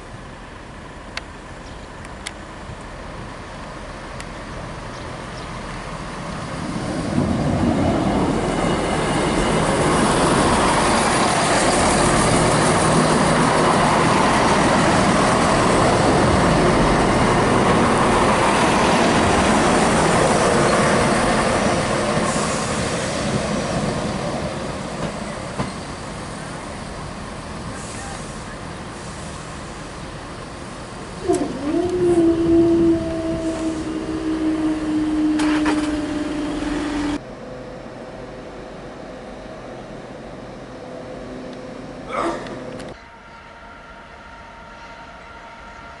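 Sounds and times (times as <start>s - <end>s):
diesel train passing: 0.0s - 46.0s.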